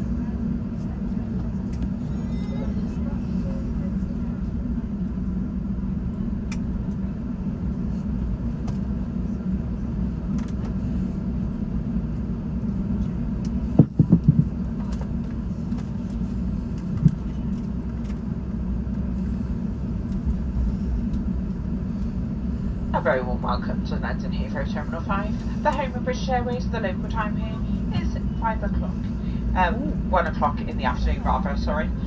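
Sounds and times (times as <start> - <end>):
airplane cabin rumble: 0.0 - 32.0.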